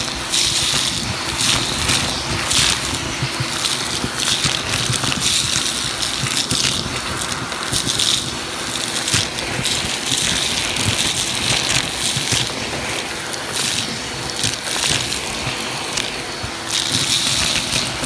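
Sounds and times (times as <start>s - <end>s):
grit clattering up hose: 0.0s - 18.0s
vacuum cleaner running: 0.0s - 18.0s.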